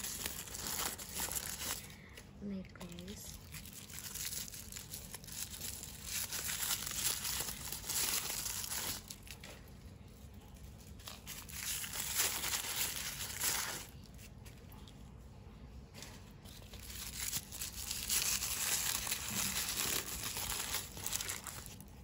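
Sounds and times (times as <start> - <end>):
plastic packaging crinkling and tearing: 0.0 - 15.0, 16.0 - 22.0.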